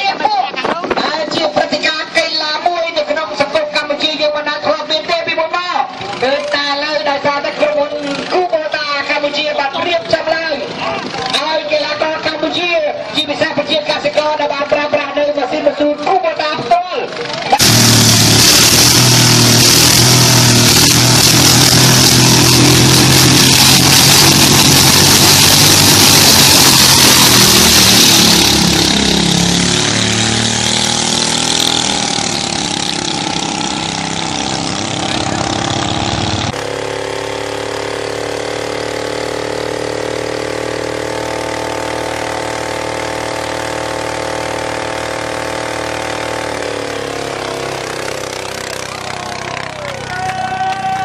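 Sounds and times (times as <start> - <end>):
diesel tractor engines racing: 0.0 - 51.0.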